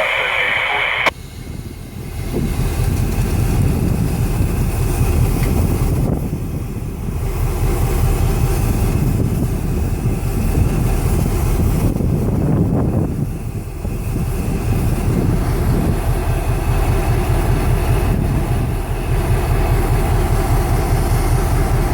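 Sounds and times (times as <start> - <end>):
diesel locomotive engines rumbling: 0.0 - 21.9.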